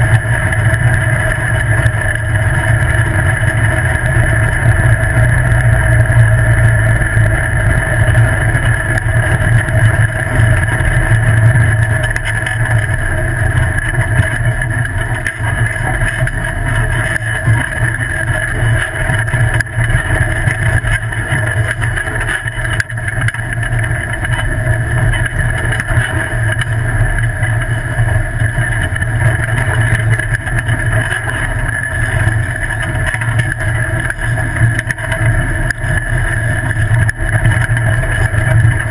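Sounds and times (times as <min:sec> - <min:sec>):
buggy motor drone: 0:00.0 - 0:38.9.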